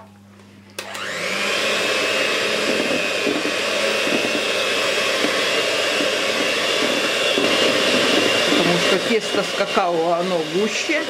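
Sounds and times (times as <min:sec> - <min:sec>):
electric hand mixer whining: 0:00.7 - 0:11.0.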